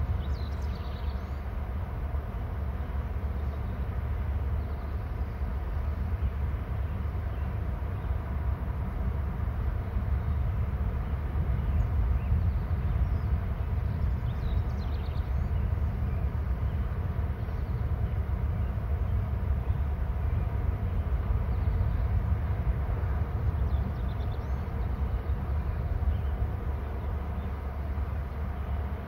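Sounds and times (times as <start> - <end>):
songbirds chirping: 0.0 - 29.0
wind rumble on microphone: 0.0 - 29.0.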